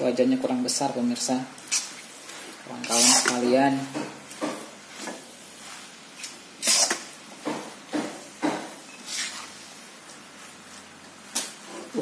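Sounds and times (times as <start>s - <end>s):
spatula scraping a wok: 1.6s - 12.0s.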